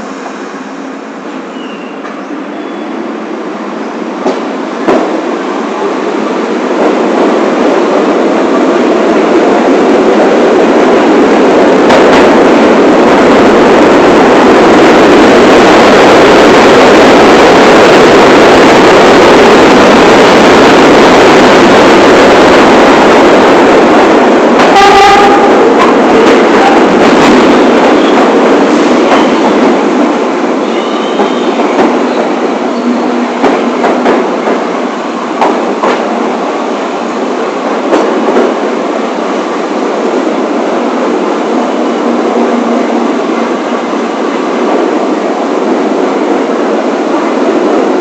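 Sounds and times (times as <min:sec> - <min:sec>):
subway train rumbling on rails: 0:00.0 - 0:48.0.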